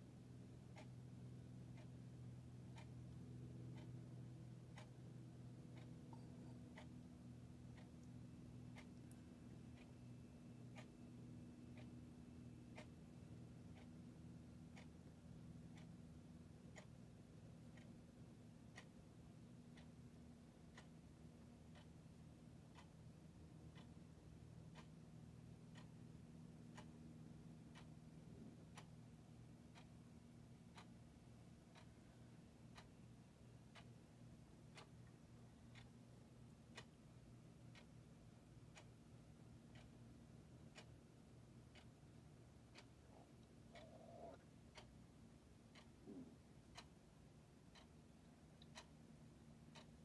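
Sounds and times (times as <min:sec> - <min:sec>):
faint clock ticking: 0:00.0 - 0:50.0
low room hum: 0:00.0 - 0:50.0
small faint sounds: 0:00.0 - 0:50.0.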